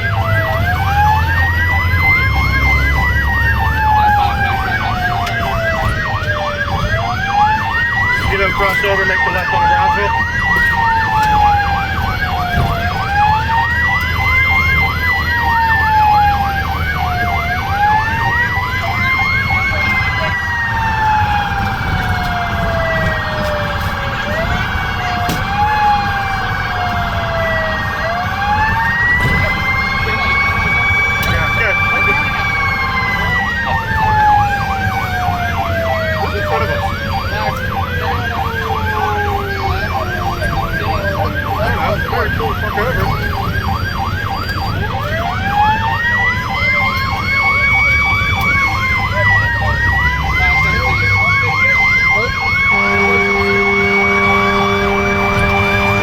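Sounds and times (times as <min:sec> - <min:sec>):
engine and road rumble: 0:00.0 - 0:56.0
fire engine siren wailing: 0:00.0 - 0:56.0.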